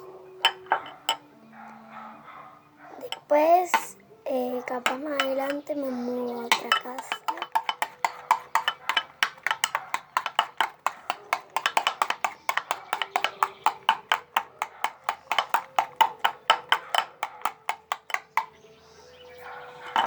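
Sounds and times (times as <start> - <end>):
spoon knocking plastic tub: 0.4 - 1.3, 3.0 - 20.0.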